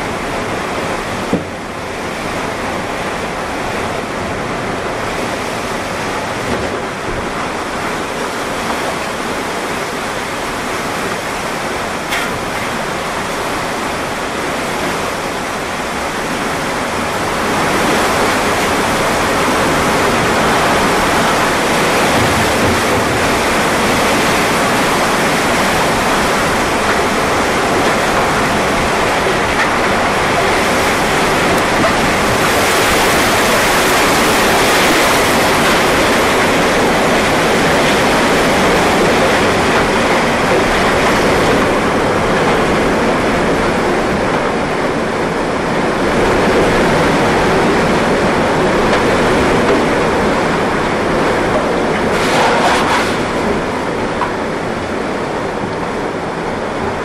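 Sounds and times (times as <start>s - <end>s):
heavy rain: 0.0s - 57.0s
tornado winds: 0.0s - 57.0s.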